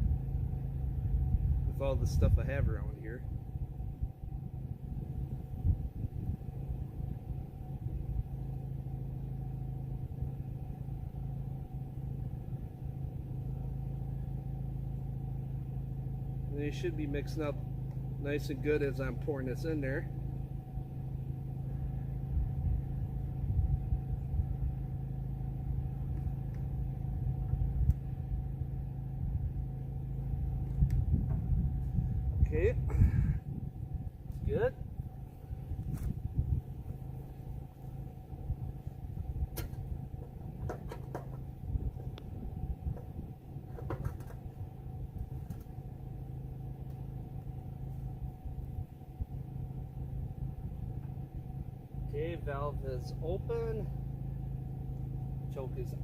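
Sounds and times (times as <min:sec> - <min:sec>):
low engine-like hum: 0:00.0 - 0:56.0.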